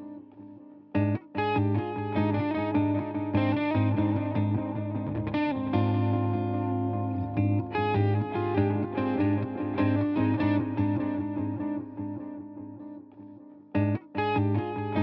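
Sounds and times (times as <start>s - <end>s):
distorted electric guitar music: 1.0s - 13.0s, 13.8s - 15.0s.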